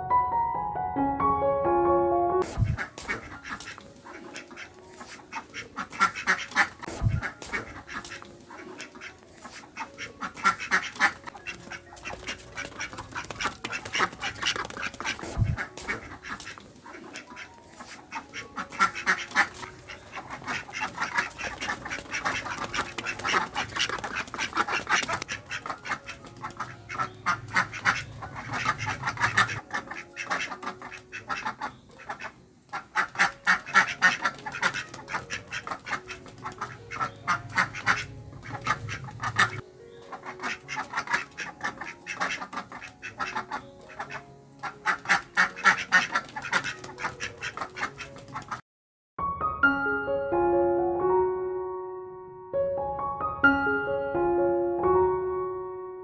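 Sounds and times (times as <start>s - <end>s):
ducks quacking: 2.4s - 48.6s.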